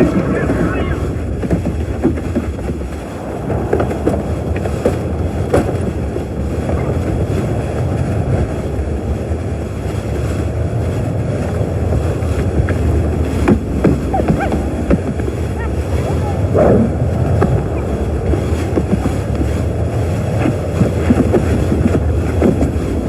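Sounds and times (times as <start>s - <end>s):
loud rumbling rush of wind: 0.0s - 23.0s.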